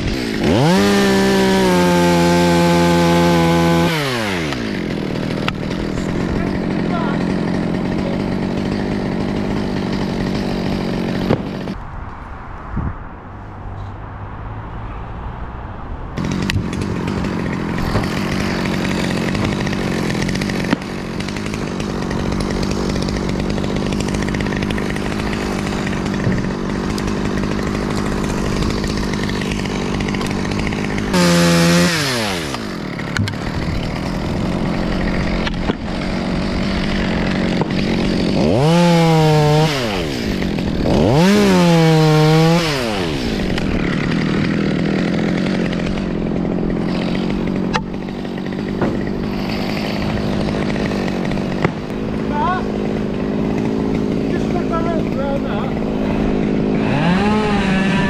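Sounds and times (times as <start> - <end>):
chainsaw idling and revving: 0.0 - 11.8, 16.2 - 58.0.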